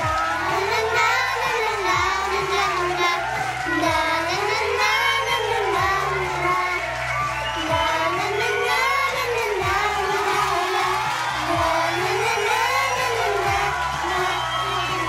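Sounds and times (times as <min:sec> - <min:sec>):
children singing: 0:00.0 - 0:15.0
pop backing track: 0:00.0 - 0:15.0.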